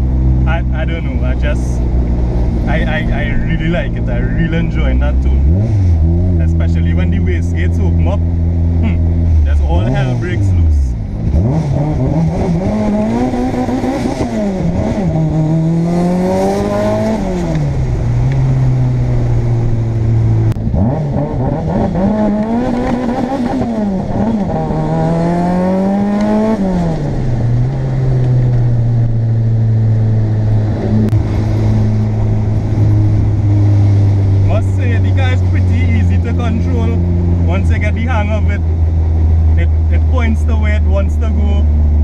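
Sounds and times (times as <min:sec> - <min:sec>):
car engine accelerating through gears: 0:01.8 - 0:40.2.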